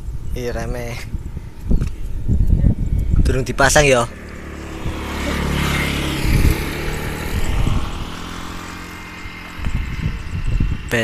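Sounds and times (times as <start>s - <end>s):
vehicle engine running: 1.1s - 11.0s.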